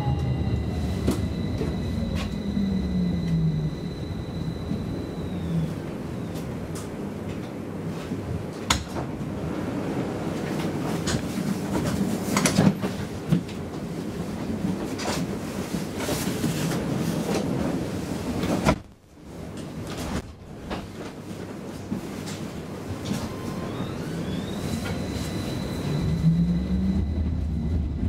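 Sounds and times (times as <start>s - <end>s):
tram equipment hum: 0.0s - 28.0s.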